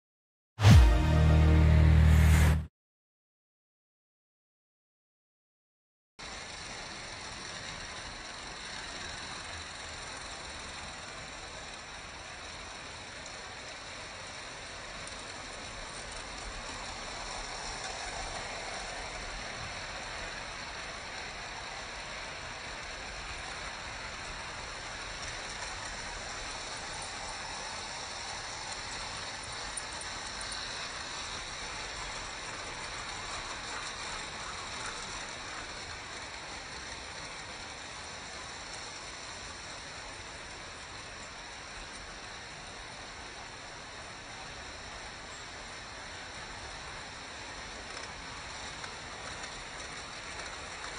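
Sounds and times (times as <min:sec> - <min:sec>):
model train wheels rolling on rails: 0:06.2 - 0:50.9.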